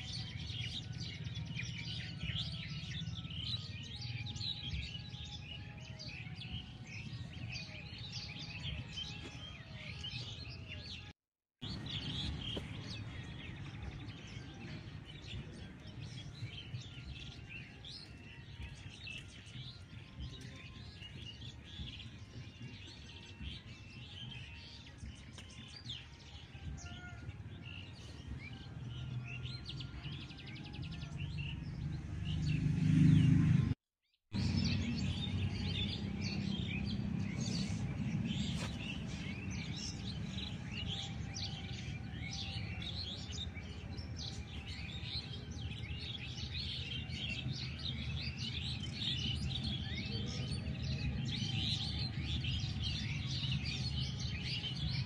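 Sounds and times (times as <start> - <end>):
birds chirping and trilling: 0.0 - 33.8, 34.4 - 55.0.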